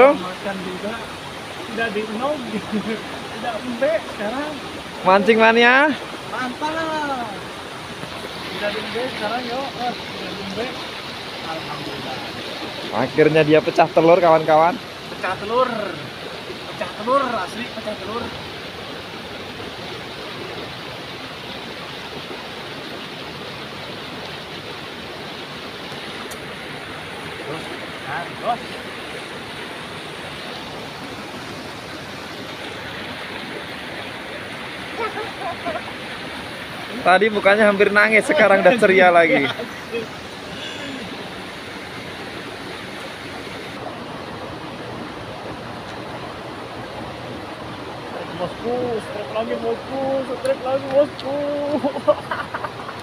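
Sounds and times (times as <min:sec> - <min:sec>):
stream water flowing in channel: 0:00.0 - 0:53.0.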